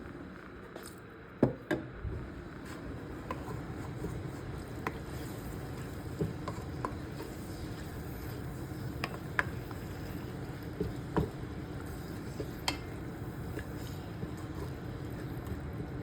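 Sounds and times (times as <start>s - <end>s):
chicken sizzling in oil: 2.6s - 16.0s.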